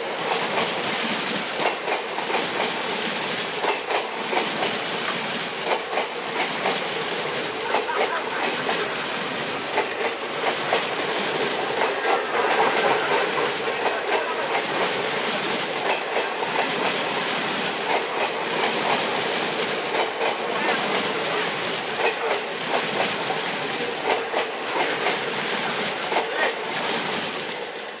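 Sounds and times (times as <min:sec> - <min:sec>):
train coaches rumbling past: 0:00.0 - 0:28.0
wheels clacking over rail joints: 0:00.0 - 0:28.0.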